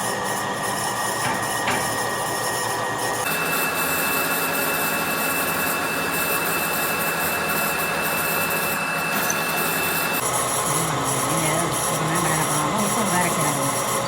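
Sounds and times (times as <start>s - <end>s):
workshop machinery running: 0.0s - 14.0s.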